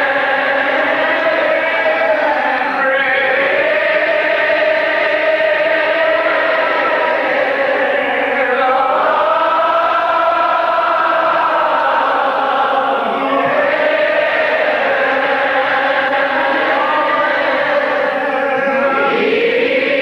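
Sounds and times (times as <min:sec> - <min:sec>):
gospel choir singing: 0:00.0 - 0:20.0.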